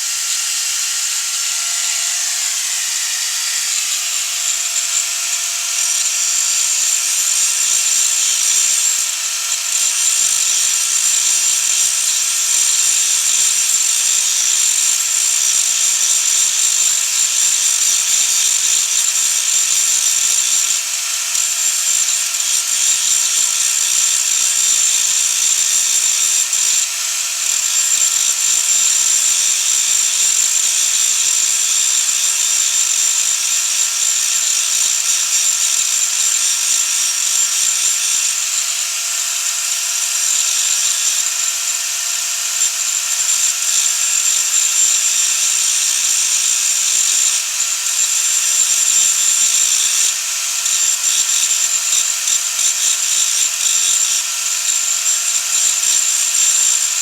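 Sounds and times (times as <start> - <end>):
small power tool whining: 0.0 - 57.0.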